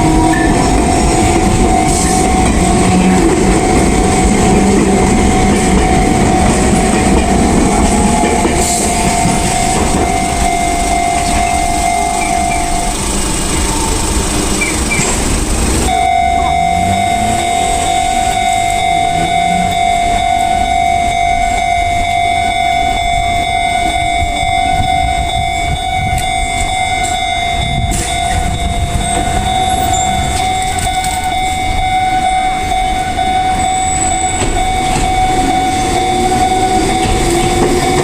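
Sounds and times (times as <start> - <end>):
electric train rumbling: 0.0 - 38.0
level crossing warning bell: 0.0 - 38.0.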